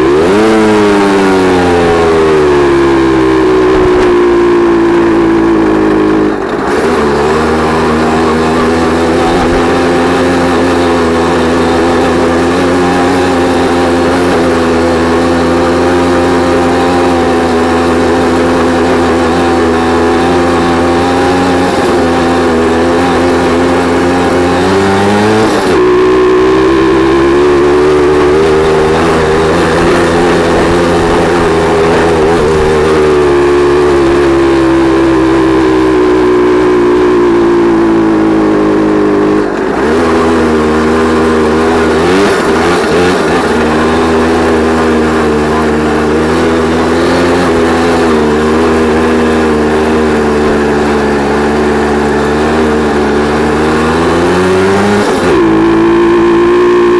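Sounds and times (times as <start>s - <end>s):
moped engine running: 0.0s - 56.9s.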